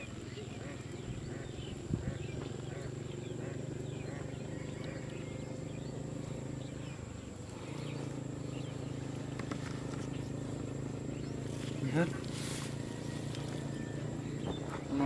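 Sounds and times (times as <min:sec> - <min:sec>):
bird chirps: 0:00.0 - 0:15.0
insect drone: 0:00.0 - 0:15.0
steady low hum: 0:00.0 - 0:15.0.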